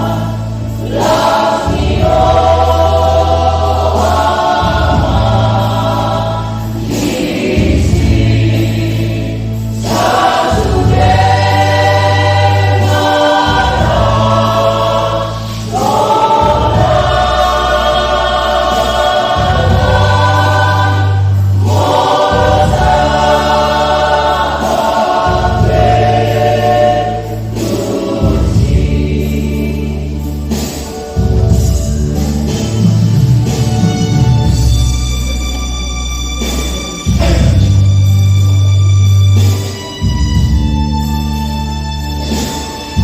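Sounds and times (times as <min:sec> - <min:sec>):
low bass accompaniment: 0:00.0 - 0:42.5
choir singing a hymn: 0:00.0 - 0:43.0.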